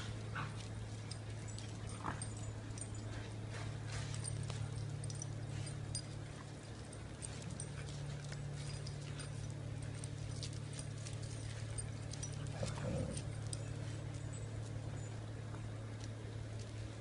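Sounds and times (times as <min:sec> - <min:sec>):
puppy paws pattering on stone: 0:00.0 - 0:17.0
steady low hum: 0:00.0 - 0:17.0.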